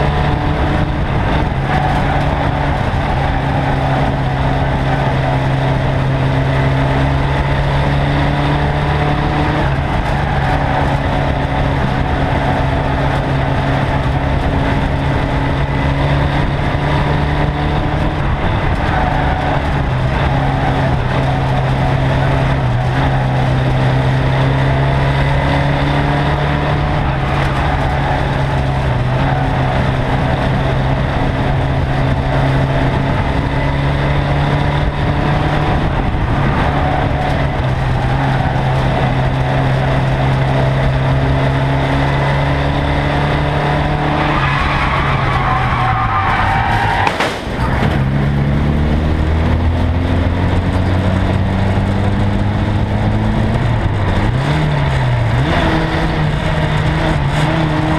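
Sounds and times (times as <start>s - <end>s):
car engine running hard: 0.0s - 57.9s
road and wind noise: 0.0s - 57.9s.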